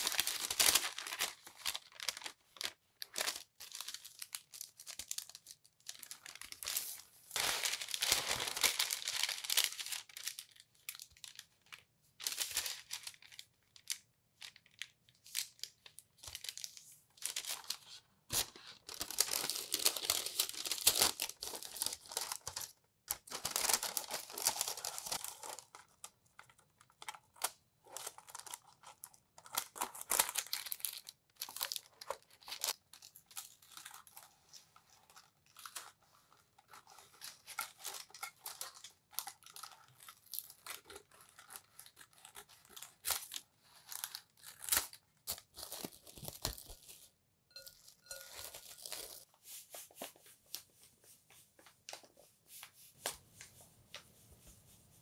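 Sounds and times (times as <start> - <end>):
parchment paper crinkling: 0.0 - 55.0.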